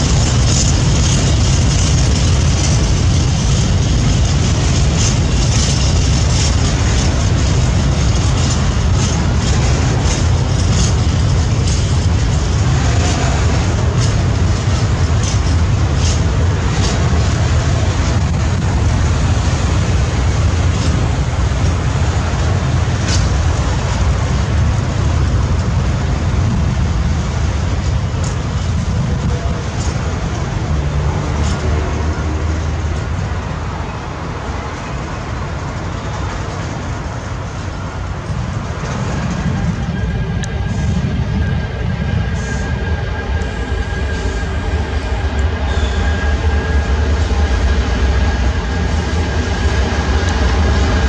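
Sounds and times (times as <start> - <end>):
steel wheels rumbling on rail: 0.0 - 51.0.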